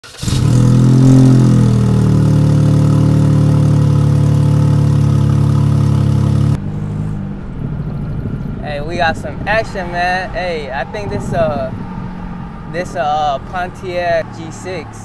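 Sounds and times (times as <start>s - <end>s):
car engine idling: 0.0s - 15.0s
quiet engine drone: 0.3s - 15.0s.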